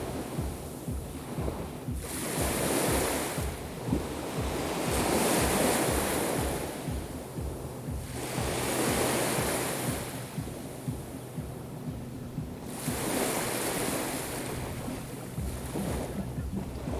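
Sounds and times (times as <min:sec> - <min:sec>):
waves breaking on shore: 0:00.0 - 0:16.9
wind buffeting microphone: 0:00.0 - 0:16.9.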